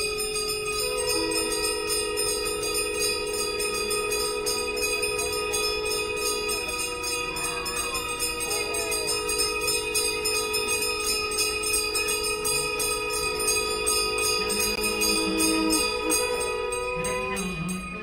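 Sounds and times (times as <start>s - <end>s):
conch shells blown: 0.0s - 18.0s
temple bells ringing: 0.0s - 18.0s.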